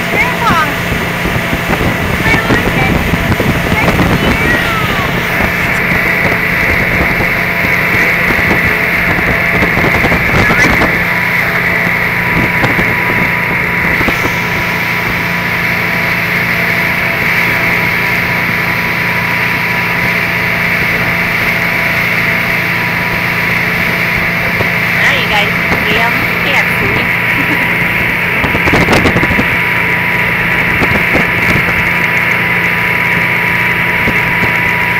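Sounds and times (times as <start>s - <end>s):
motorboat engine running: 0.0s - 34.9s
wind and wake water rushing: 0.0s - 34.9s.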